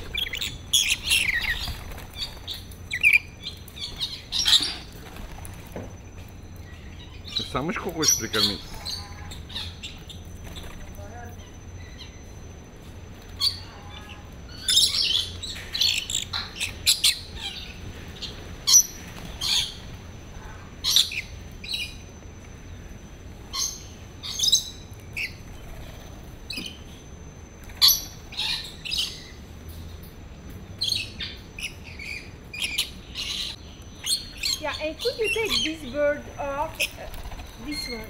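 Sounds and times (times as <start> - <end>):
parrots squawking and chirping: 0.0 - 5.6, 6.7 - 12.3, 13.2 - 22.0, 23.5 - 26.9, 27.6 - 29.4, 30.8 - 38.0.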